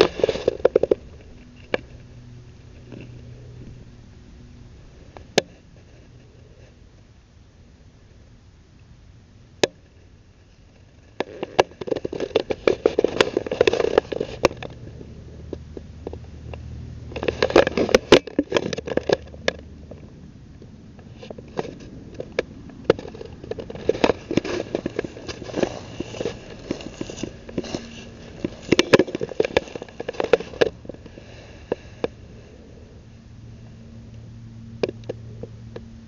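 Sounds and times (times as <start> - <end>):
crackling in dry grass: 0.0 - 7.1, 9.5 - 36.0.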